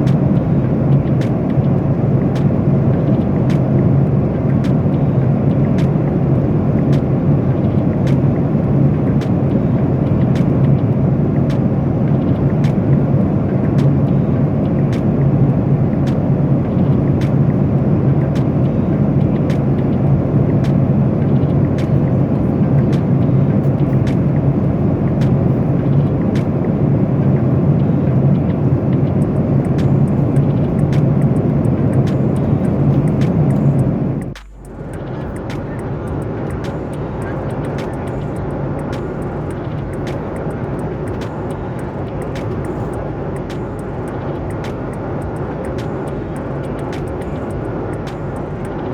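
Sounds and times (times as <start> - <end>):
airliner engine and airflow noise: 0.0 - 48.9
faint regular ticking: 0.0 - 48.9.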